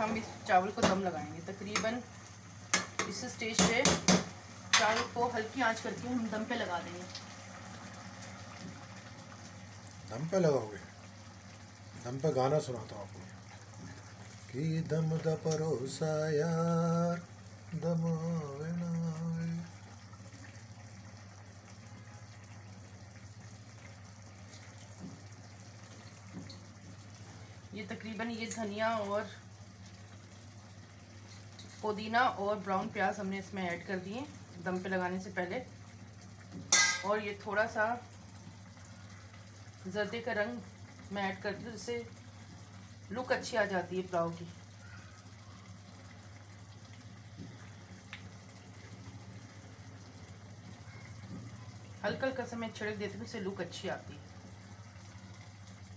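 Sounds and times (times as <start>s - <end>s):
rice pot bubbling faintly: 0.0s - 55.9s.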